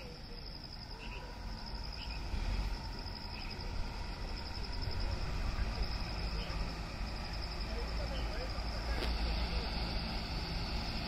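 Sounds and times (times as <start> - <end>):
high-pitched insect trill: 0.0 - 11.0
short insect chirps: 0.0 - 11.0.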